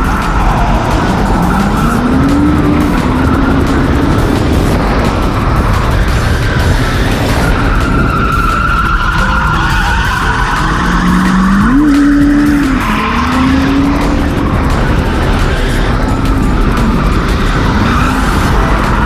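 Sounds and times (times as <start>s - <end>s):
car engine revving: 0.0s - 19.0s
tyres squealing: 0.0s - 19.0s.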